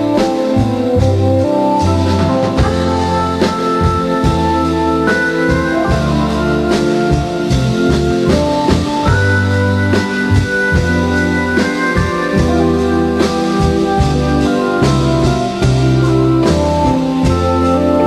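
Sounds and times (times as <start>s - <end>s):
rock music with drums and guitar: 0.0s - 18.0s.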